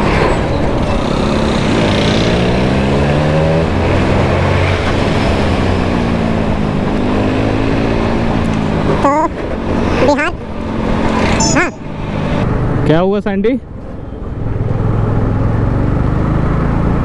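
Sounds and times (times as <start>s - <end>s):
road rumble: 0.0s - 17.0s
motorcycle engine accelerating: 0.8s - 13.1s, 14.2s - 17.0s.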